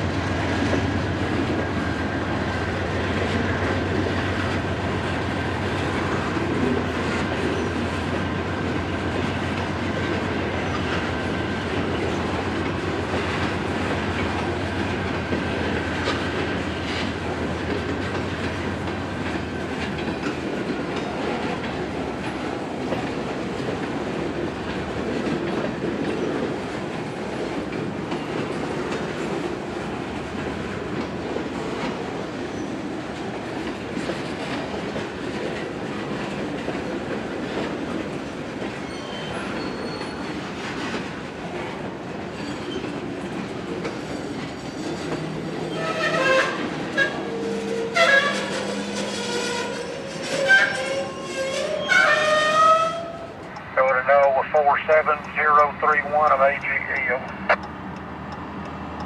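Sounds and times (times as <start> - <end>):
rail noise: 0.0 - 59.0
train low hum: 0.0 - 59.0.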